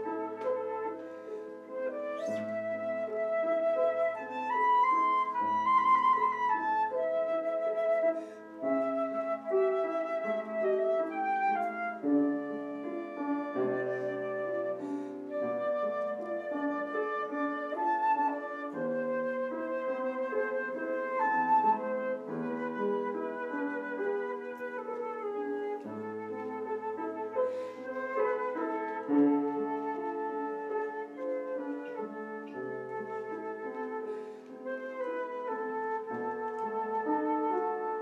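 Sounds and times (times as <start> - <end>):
flute melody with vibrato: 0.0 - 38.0
grand piano: 0.0 - 38.0.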